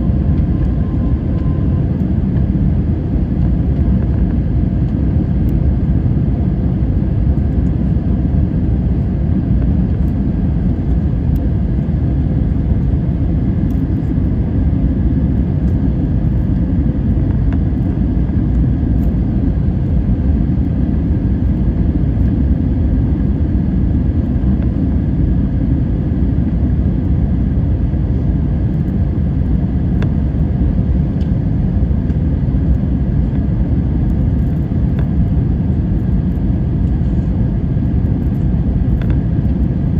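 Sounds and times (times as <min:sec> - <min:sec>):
faint steady tonal hum: 0:00.0 - 0:39.9
jet engine and airflow rumble: 0:00.0 - 0:39.9.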